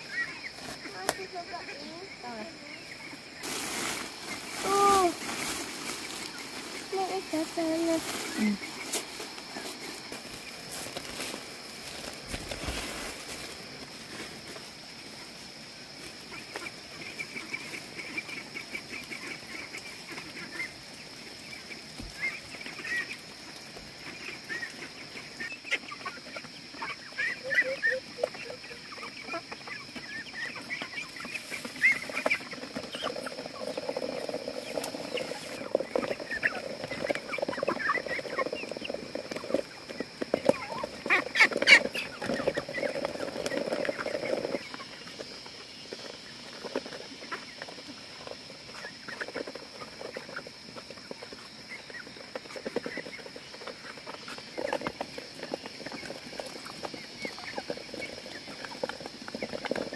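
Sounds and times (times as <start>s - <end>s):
ducklings and chicks peeping: 0.0s - 9.8s, 16.0s - 59.9s.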